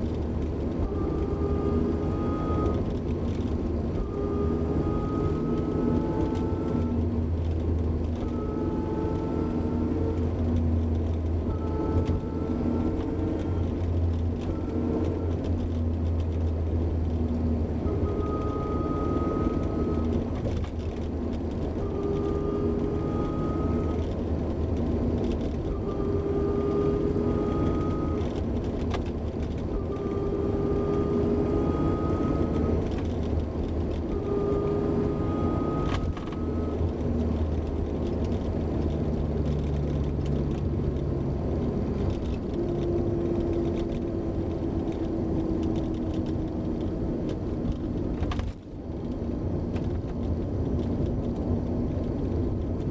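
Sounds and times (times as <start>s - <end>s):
car low running noise: 0.0s - 52.9s
differential gear whine: 0.0s - 52.9s.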